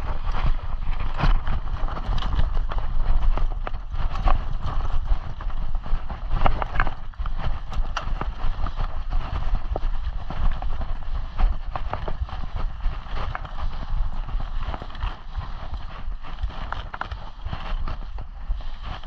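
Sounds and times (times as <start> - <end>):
bike rattling and knocking: 0.0 - 19.0
low rumble of vibration: 0.0 - 19.0.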